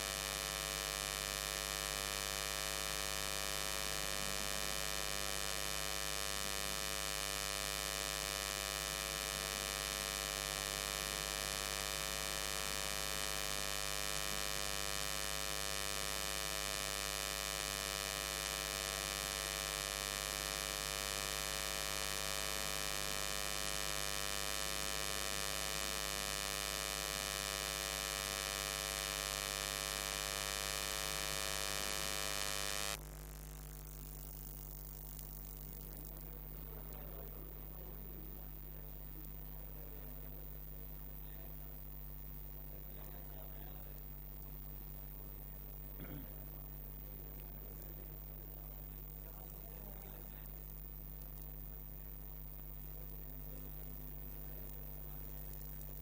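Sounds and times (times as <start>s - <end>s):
electrical mains hum with buzz: 0.0s - 56.0s.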